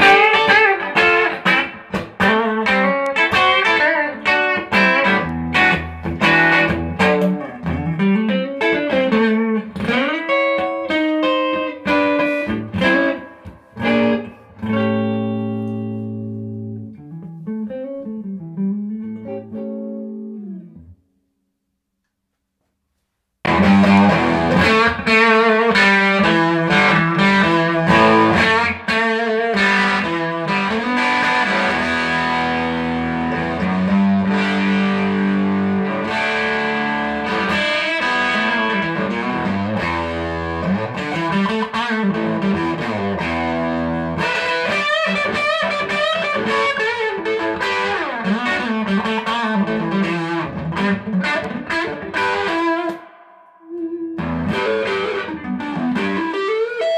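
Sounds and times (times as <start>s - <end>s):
electric guitar lead playing: 0.0s - 21.0s, 23.4s - 56.9s.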